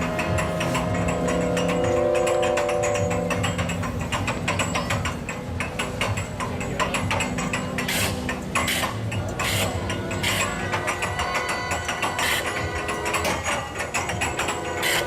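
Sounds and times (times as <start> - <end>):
contraption clattering and ratcheting: 0.0 - 15.0
low steady drone: 0.0 - 15.0.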